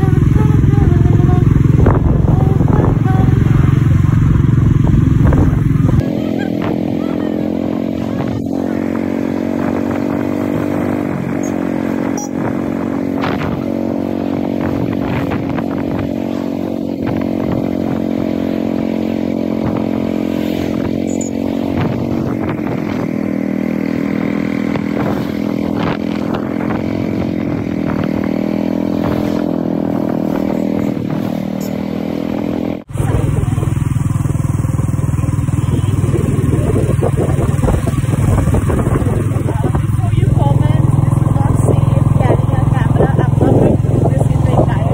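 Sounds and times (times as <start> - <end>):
deep engine rumble: 0.0 - 44.9
motorcycle engine cruising: 0.0 - 44.9.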